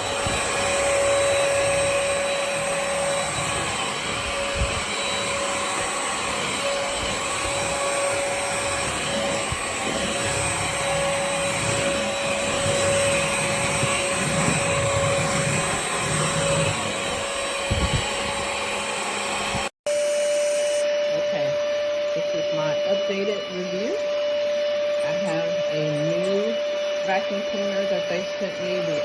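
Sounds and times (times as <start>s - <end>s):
stick vacuum motor whine: 0.0s - 29.0s.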